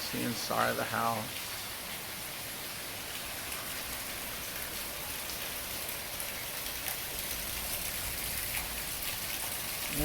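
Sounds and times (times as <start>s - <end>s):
heavy rain downpour: 0.0s - 10.0s
loud raindrops: 0.0s - 10.0s.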